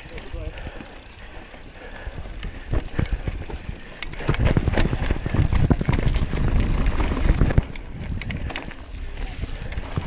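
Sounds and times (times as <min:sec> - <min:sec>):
bike knocking and rattling: 0:00.0 - 0:10.0
bike tyres rumbling on trail: 0:00.0 - 0:10.0.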